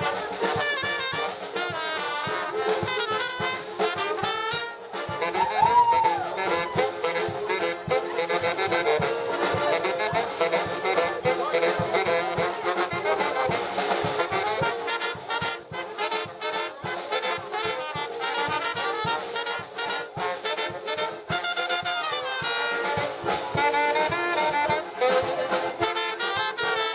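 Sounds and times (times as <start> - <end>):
steady drum beat: 0.0 - 26.9
trombones and trumpets playing: 0.0 - 26.9.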